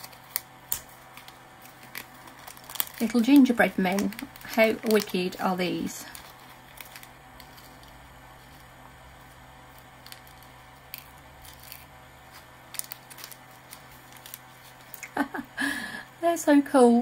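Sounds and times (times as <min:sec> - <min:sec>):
plastic bag crinkling and clicking: 0:00.0 - 0:15.3.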